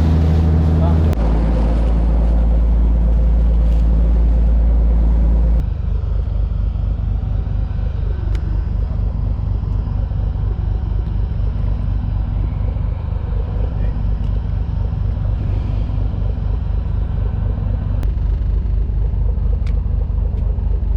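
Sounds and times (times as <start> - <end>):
boat engine running: 0.0 - 20.9.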